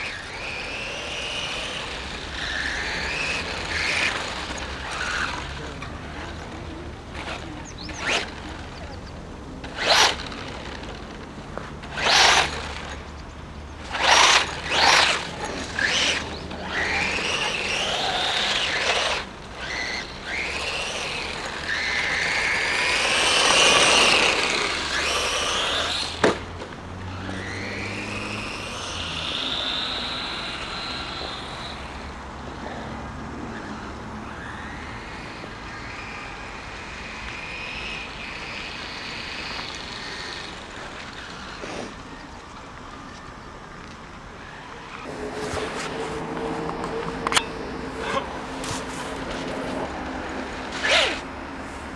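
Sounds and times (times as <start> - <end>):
rc truck motor whining: 0.0 - 51.9.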